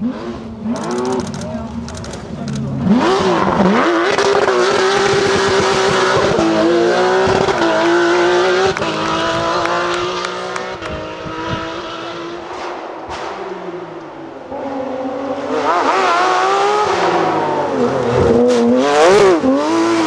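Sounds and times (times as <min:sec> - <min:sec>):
gear changes: 0:00.0 - 0:20.0
rally car engine revving: 0:00.0 - 0:20.0.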